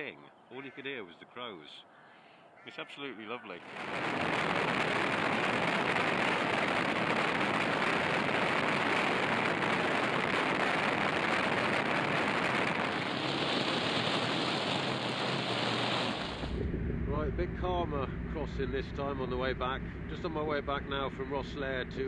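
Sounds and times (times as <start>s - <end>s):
wind and road noise: 3.6s - 22.0s.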